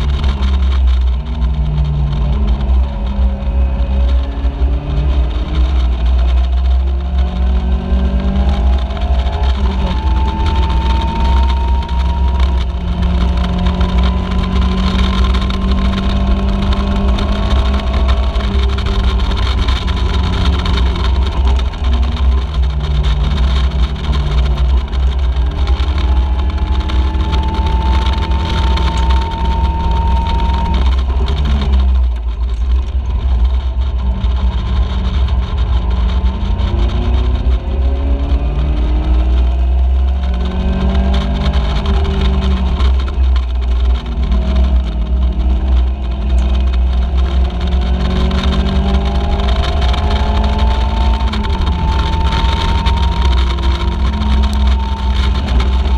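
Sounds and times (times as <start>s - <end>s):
race car engine revving: 0.0s - 55.9s
wind buffeting: 0.0s - 55.9s.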